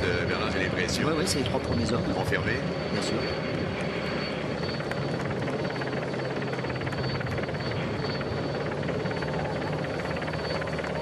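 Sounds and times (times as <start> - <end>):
helicopter rotor and engine: 0.0 - 11.0
thin high whine: 0.0 - 11.0.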